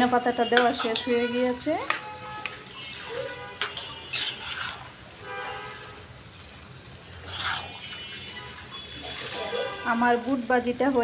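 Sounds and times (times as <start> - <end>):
spatula scraping in frying pan: 0.0 - 11.0.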